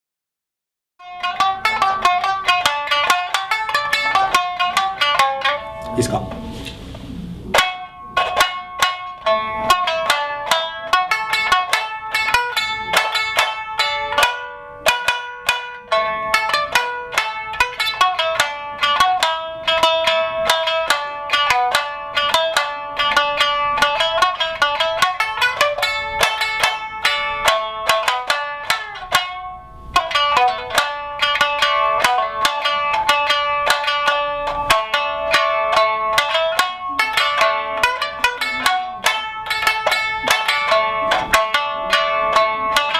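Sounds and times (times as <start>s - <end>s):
plucked lute melody: 1.0s - 42.9s.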